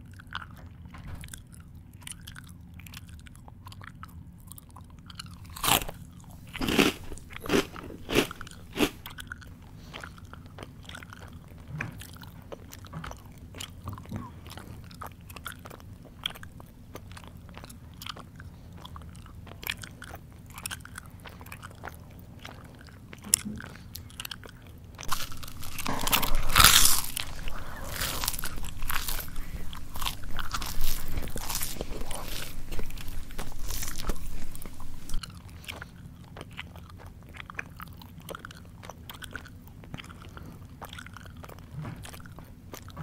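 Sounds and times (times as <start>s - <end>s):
crunching of crisp food: 0.0s - 43.0s
mouth chewing wet clicks: 0.0s - 43.0s.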